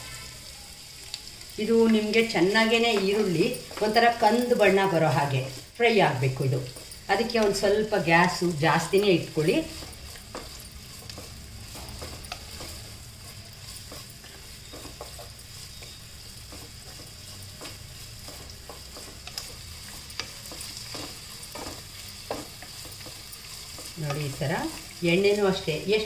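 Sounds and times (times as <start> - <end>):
onions sizzling in hot oil: 0.0 - 26.0
wooden spatula scraping a pan: 1.4 - 26.0.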